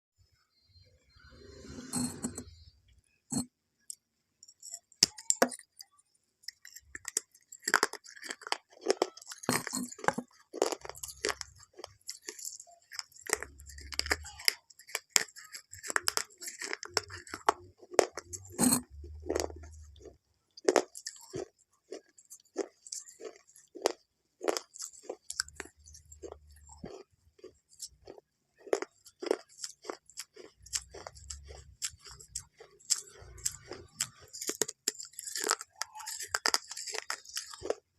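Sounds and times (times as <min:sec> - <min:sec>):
crunchy food being chewed: 0:03.3 - 0:37.9.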